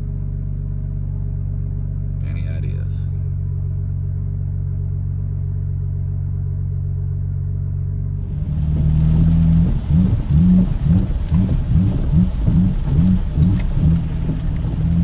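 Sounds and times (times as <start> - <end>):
car engine idling and surging: 0.0 - 15.0.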